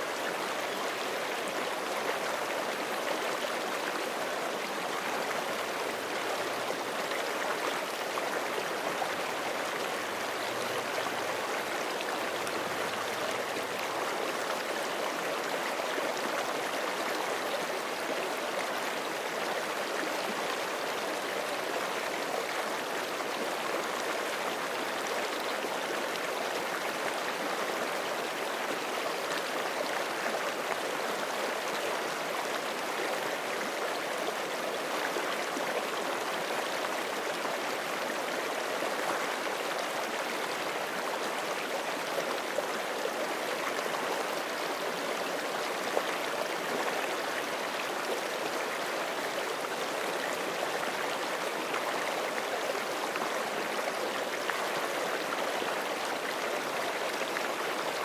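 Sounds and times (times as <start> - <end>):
creek flowing over rocks: 0.0 - 58.0.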